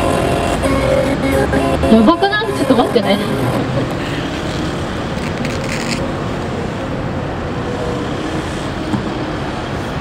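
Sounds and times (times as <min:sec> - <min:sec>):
truck and cars driving past: 0:00.0 - 0:10.0.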